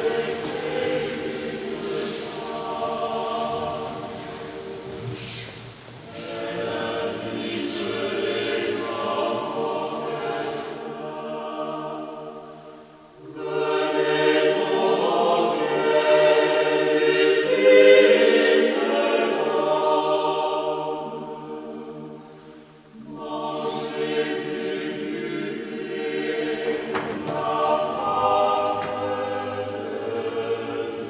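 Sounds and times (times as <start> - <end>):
choir singing held chords: 0.0 - 31.0.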